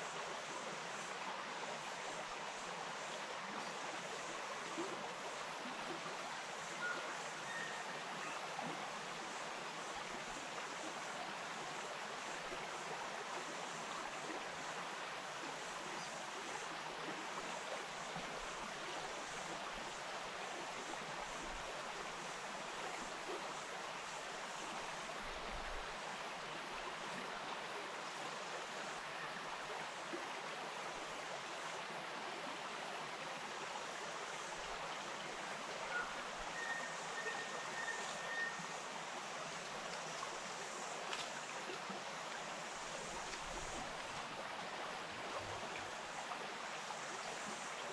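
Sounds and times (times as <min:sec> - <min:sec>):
stream babbling over stones: 0:00.1 - 0:47.9.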